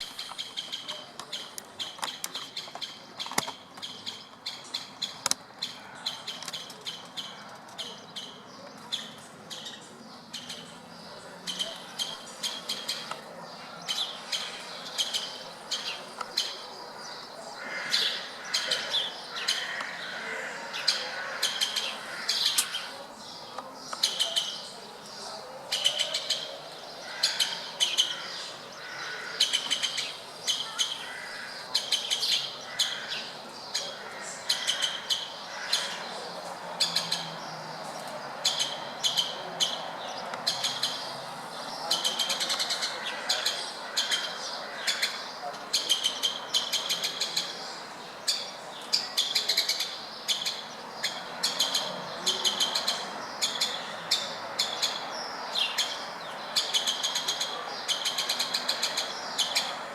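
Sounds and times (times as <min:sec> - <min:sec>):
woodpeckers chattering: 0:00.0 - 0:59.9.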